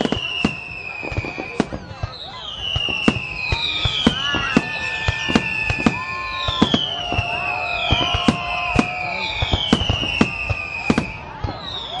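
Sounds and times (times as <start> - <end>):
falling whistling fireworks: 0.0 - 12.0
fireworks bangs and pops: 0.0 - 12.0.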